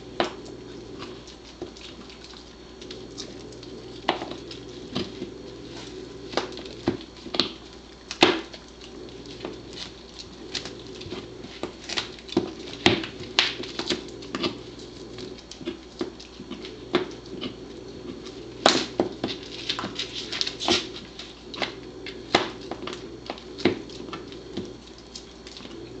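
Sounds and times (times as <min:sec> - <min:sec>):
teeth cracking on bone: 0:00.2 - 0:05.6, 0:06.3 - 0:26.0
dog chewing wetly: 0:00.2 - 0:26.0.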